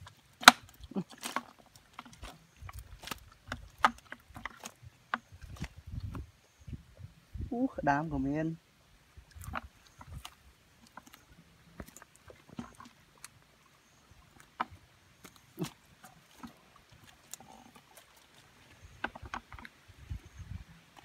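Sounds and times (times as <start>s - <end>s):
fish flopping: 0.0s - 6.3s, 9.2s - 21.0s.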